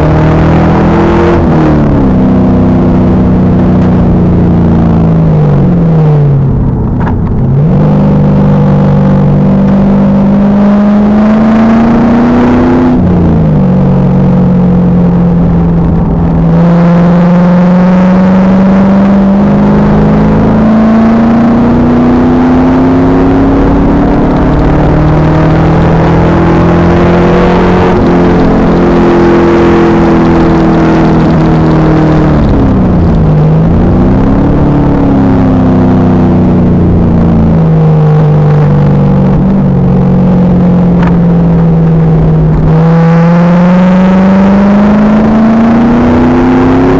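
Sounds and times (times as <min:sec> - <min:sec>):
car engine under load: 0:00.0 - 0:46.9.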